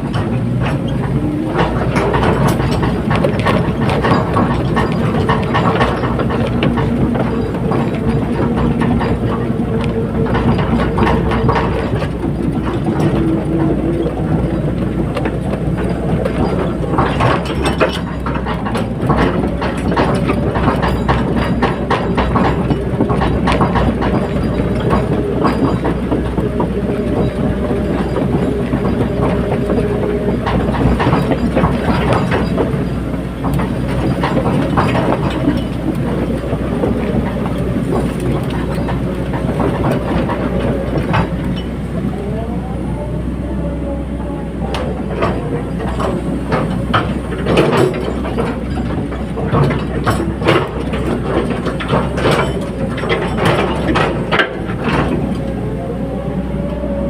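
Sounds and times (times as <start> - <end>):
metallic clanks and knocks: 0.0 - 42.4, 44.7 - 55.7
diesel engine running: 0.0 - 57.0.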